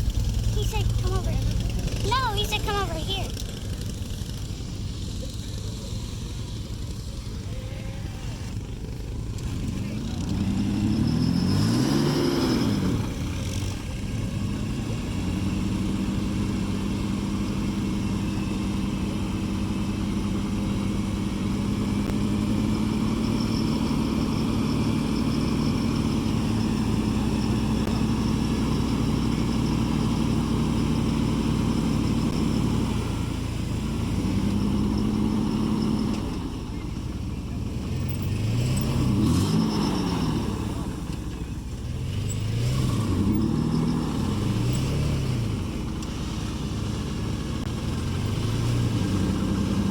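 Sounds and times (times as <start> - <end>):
off-road vehicle engine revving: 0.0 - 49.9.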